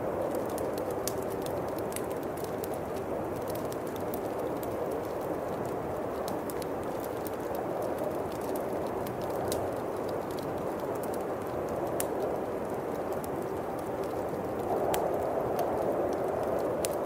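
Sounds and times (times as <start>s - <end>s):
bonfire crackling: 0.0s - 17.0s
wind blowing: 0.0s - 17.0s.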